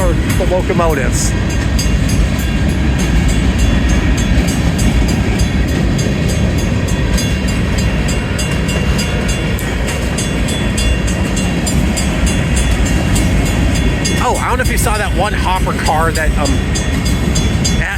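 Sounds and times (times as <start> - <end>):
crossing warning bell ringing: 0.0 - 17.9
train wheels rumbling on rail: 0.0 - 17.9.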